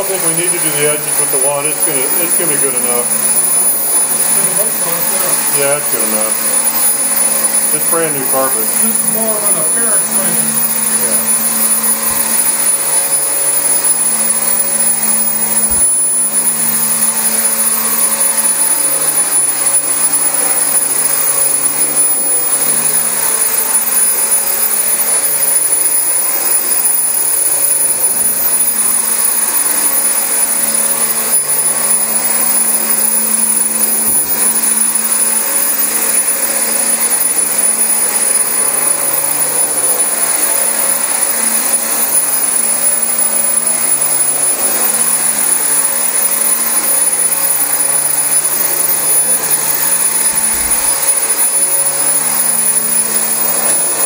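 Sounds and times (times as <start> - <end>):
thin high-pitched tone: 0.0 - 54.0
vacuum cleaner running on carpet: 0.0 - 54.0.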